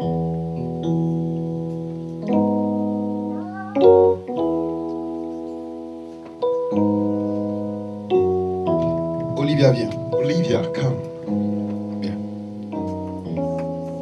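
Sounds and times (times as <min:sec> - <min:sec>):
electronic keyboard chords: 0:00.0 - 0:14.0.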